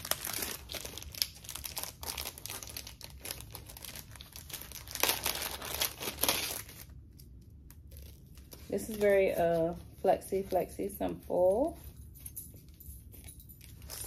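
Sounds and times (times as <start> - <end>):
plastic packaging crinkling: 0.0 - 11.9, 12.6 - 14.0.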